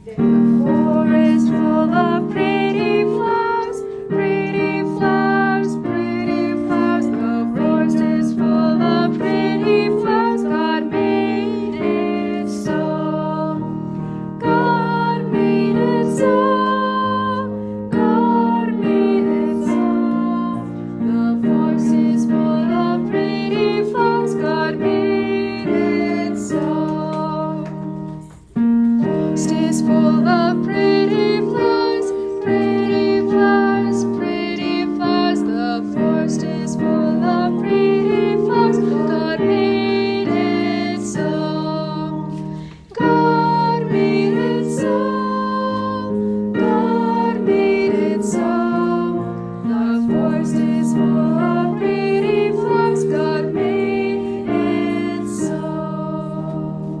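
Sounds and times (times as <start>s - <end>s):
piano playing children's song: 0.0s - 57.0s.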